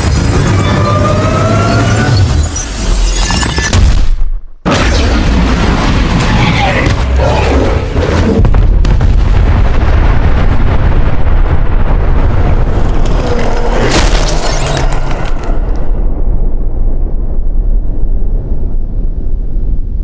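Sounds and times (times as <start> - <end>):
deep rumbling boom: 3.8 - 20.0.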